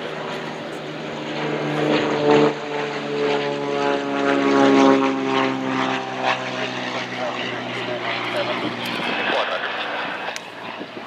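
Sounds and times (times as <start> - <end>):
propeller airplane flying past: 0.0 - 11.0.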